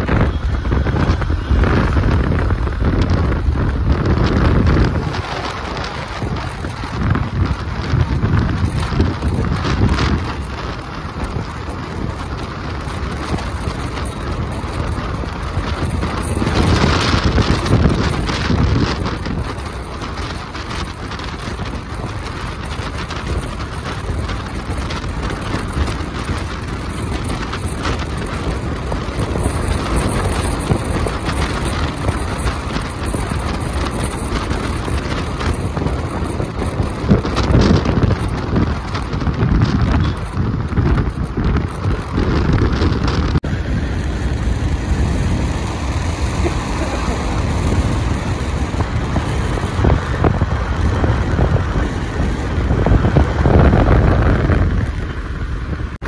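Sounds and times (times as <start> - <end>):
motorcycle running: 0.0 - 56.0
wind buffeting the microphone: 0.0 - 56.0.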